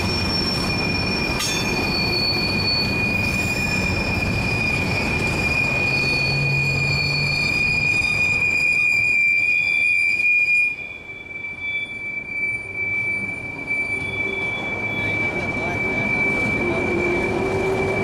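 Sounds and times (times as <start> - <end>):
rumble of passing train cars: 0.0 - 18.0
train wheels squealing on rail: 0.0 - 18.0.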